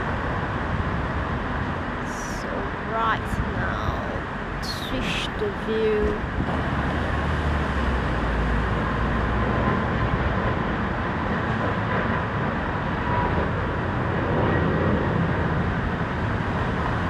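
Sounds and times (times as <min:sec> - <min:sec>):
jet engine noise: 0:00.0 - 0:17.0.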